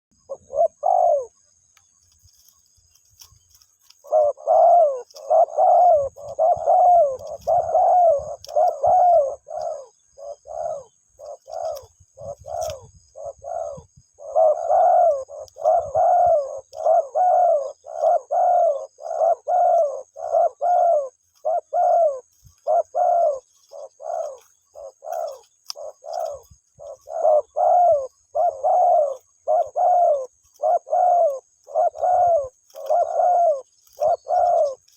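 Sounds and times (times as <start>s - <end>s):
dove cooing: 0.2s - 34.9s.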